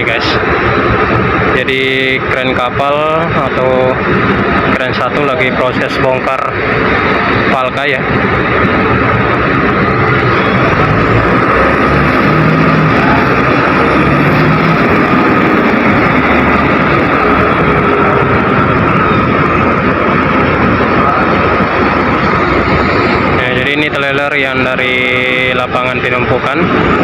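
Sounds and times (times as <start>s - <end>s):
diesel engine running: 0.0s - 27.0s
steady whine: 0.0s - 27.0s.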